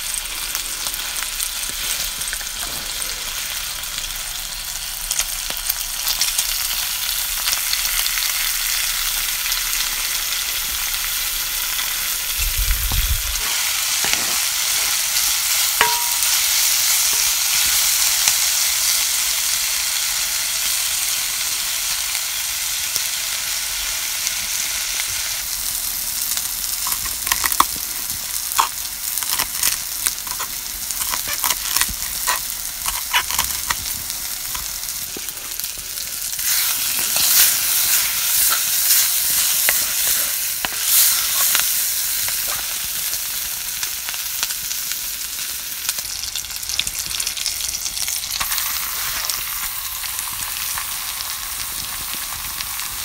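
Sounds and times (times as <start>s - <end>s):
meat and onion sizzling: 0.0s - 53.0s.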